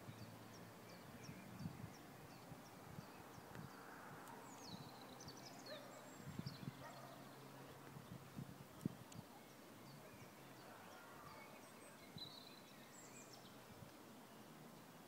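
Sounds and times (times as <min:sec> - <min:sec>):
trilling bird song: 0:00.0 - 0:14.9
birds chirping: 0:00.0 - 0:15.0.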